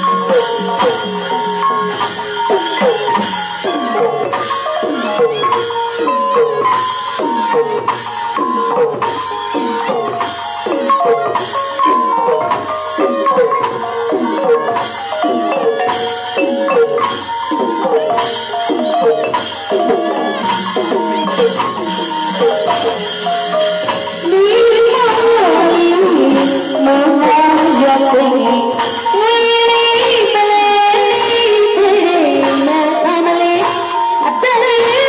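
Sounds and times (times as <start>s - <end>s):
high cymbal clashes: 0.0s - 35.0s.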